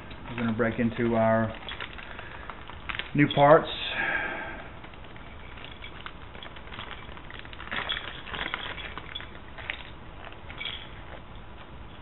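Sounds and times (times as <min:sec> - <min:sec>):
package crinkling and rustling: 0:00.1 - 0:03.8, 0:04.7 - 0:11.7.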